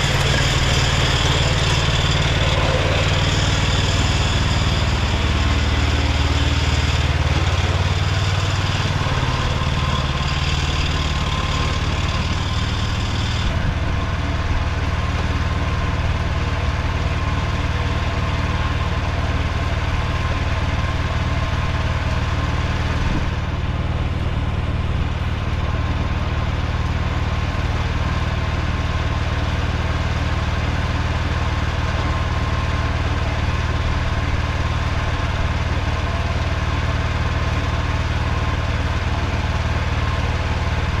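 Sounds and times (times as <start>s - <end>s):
tractor engine droning: 0.0s - 41.0s.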